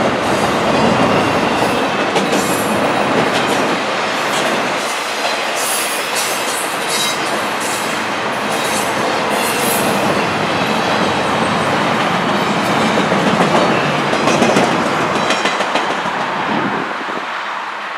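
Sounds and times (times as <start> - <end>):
freight train wheels clattering: 0.1 - 16.4.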